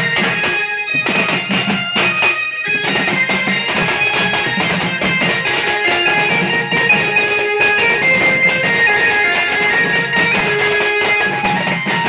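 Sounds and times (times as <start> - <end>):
drums pounding fast rhythm: 0.0 - 12.0
loud lead melody: 0.0 - 12.0.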